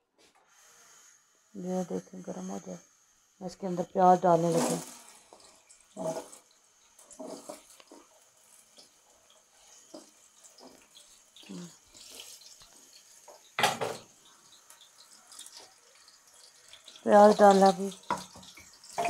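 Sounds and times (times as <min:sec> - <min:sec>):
onions sizzling in hot oil: 0:00.5 - 0:19.0.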